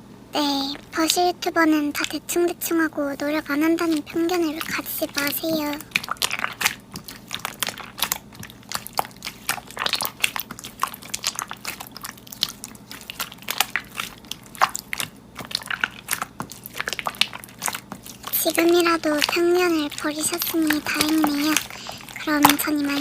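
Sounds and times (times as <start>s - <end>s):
slime squished by hand: 0.5s - 23.0s.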